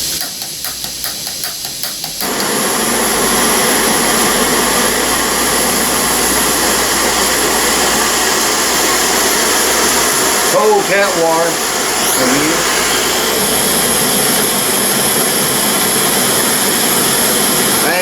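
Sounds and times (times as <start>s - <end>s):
gas stove burner hissing: 0.0s - 18.0s.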